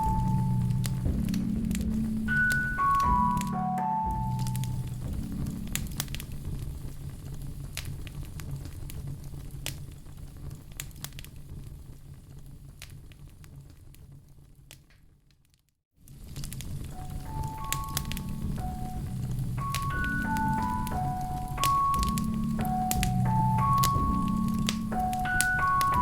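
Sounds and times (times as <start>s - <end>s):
wood fire crackling: 0.0s - 3.5s, 4.1s - 15.2s, 16.1s - 26.0s.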